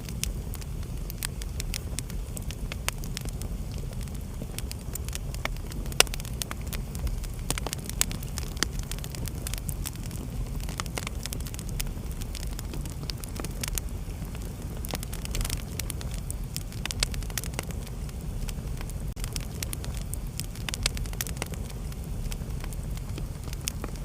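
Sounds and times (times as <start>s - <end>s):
low rumble of flame: 0.0s - 24.0s
sharp pops and snaps: 0.0s - 24.0s
wood fire crackling: 0.0s - 24.0s.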